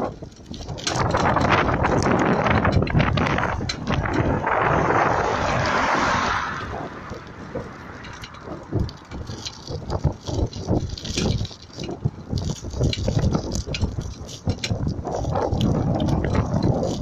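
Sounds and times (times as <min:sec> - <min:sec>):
bike rattles and knocks: 0:00.0 - 0:17.0
wind rushing over microphone: 0:00.0 - 0:17.0.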